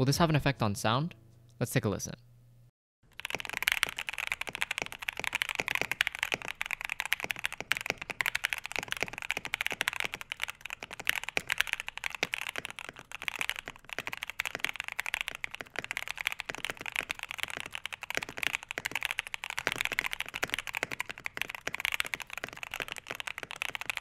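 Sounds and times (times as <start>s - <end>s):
fast keyboard typing: 3.1s - 24.0s.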